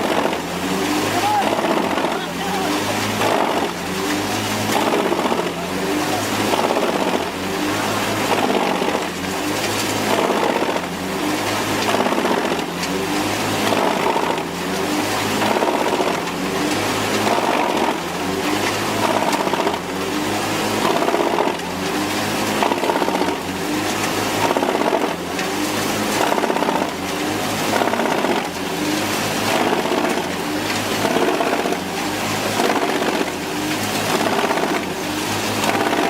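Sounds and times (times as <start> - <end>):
wood chipper churning: 0.0 - 36.0.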